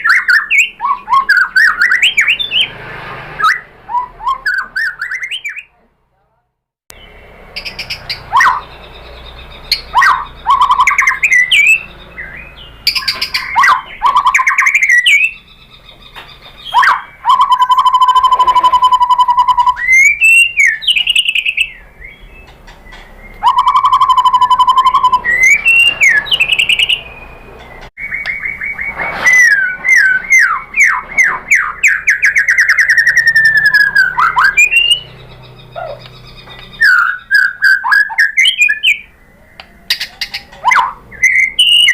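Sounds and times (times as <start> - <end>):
bird singing whistled song: 0.0 - 2.7, 3.4 - 5.8, 6.9 - 41.9.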